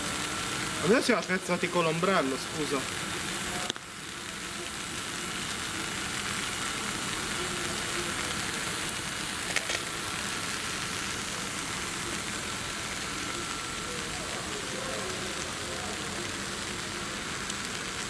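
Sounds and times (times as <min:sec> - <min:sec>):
falling rain hiss: 0:00.0 - 0:18.0.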